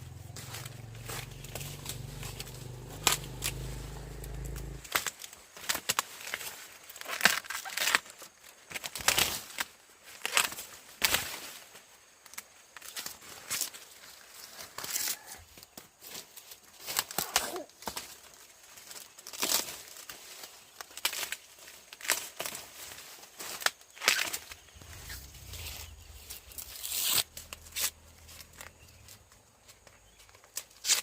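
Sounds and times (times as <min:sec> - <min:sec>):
dry corn leaves rustling and tearing: 0:00.0 - 0:31.0.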